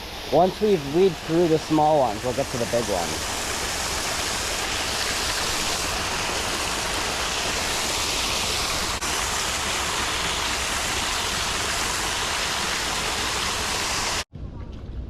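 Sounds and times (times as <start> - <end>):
small waterfall rushing: 0.0 - 14.3.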